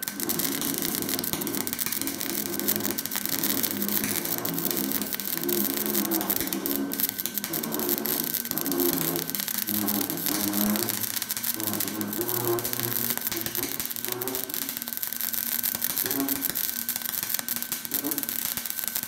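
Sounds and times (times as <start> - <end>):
wavering welder buzz: 0.0 - 19.0
welding arc crackling: 0.0 - 19.0.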